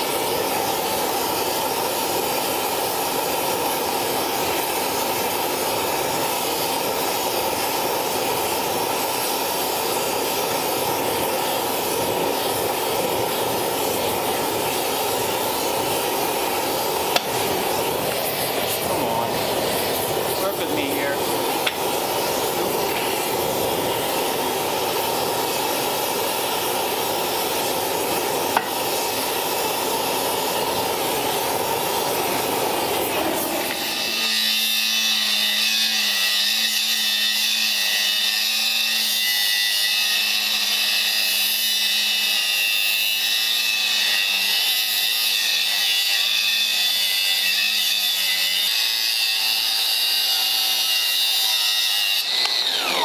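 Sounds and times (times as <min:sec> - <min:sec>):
grinder whining on steel: 0:00.0 - 0:53.0
torch flame hissing: 0:00.0 - 0:53.0.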